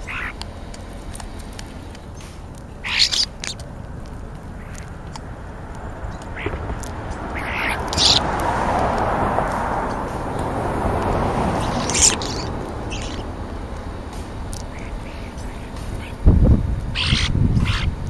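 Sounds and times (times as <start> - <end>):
starlings giving harsh calls: 0.0 - 18.0
steady background noise: 0.0 - 18.0.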